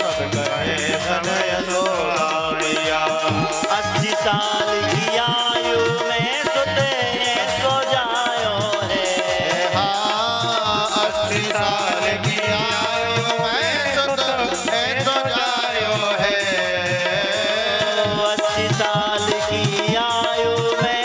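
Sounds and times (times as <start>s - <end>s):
hand drum rhythm: 0.0s - 21.0s.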